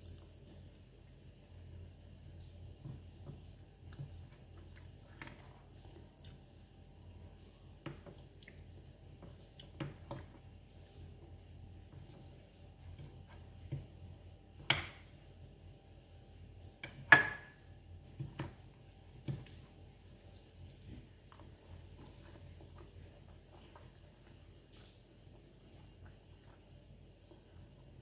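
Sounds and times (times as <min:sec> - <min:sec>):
quiet chewing: 0:00.0 - 0:14.0, 0:19.1 - 0:28.0.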